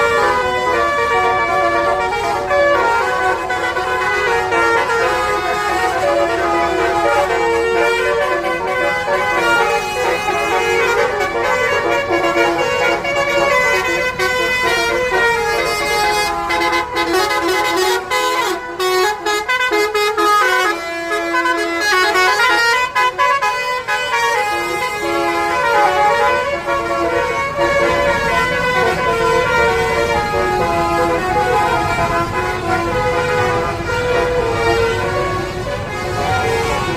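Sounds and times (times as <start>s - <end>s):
musical bus horn: 0.0s - 36.9s.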